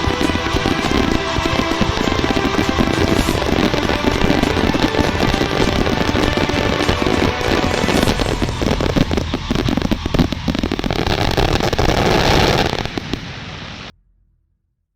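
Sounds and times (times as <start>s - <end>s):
fireworks crackling and popping: 0.0s - 13.9s.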